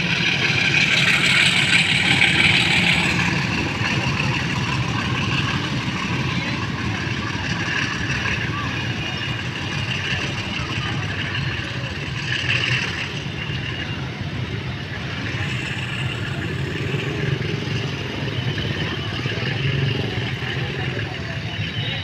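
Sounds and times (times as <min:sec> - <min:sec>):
locomotive engine drone: 0:00.0 - 0:22.0.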